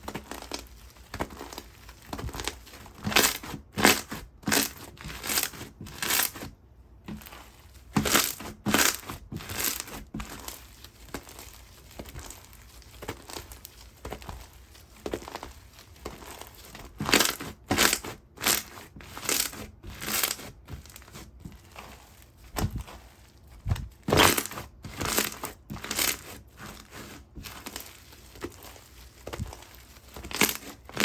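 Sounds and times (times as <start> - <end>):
slime squishing and crackling: 0.0 - 31.0.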